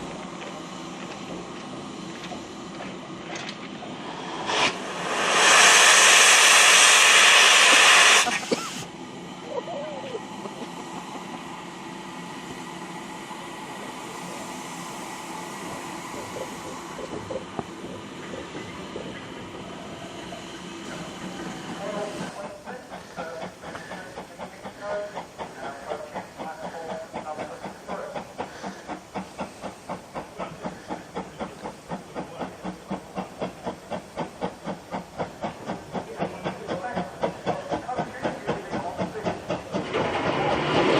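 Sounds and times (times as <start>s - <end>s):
steam locomotive hissing steam: 0.0s - 40.9s.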